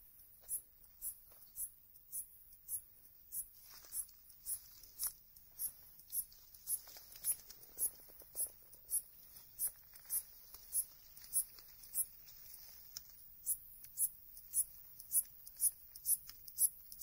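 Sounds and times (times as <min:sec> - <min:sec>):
faint rustling in undergrowth: 0:00.0 - 0:17.0
katydid chirping: 0:00.0 - 0:17.0.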